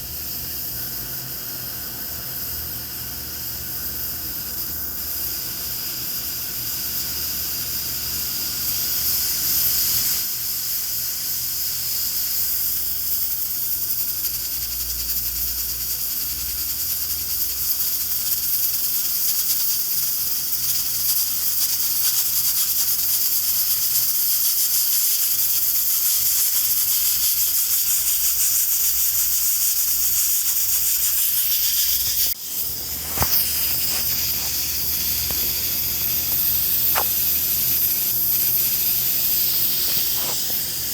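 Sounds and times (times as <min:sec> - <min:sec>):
pressure cooker steam hissing: 0:00.0 - 0:40.9.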